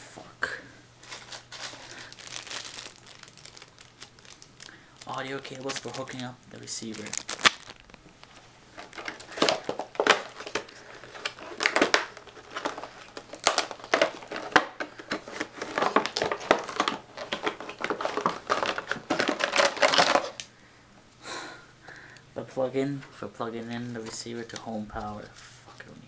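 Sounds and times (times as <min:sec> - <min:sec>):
plastic packaging crinkling: 0:01.0 - 0:20.5, 0:23.5 - 0:25.9.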